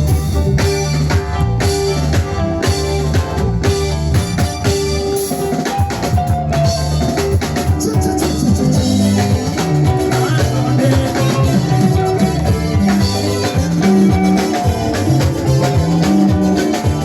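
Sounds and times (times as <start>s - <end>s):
drum kit hits: 0.0s - 17.0s
live band playing amplified music: 0.0s - 17.0s
sustained bass notes: 0.0s - 17.0s.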